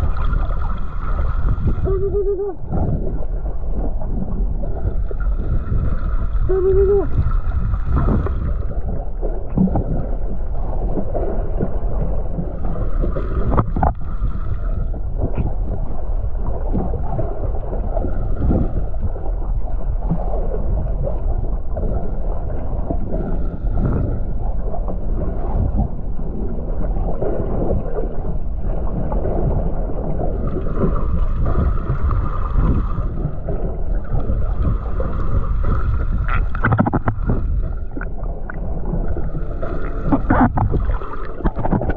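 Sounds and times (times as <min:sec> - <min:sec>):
underwater rumble of moving water: 0:00.0 - 0:41.9.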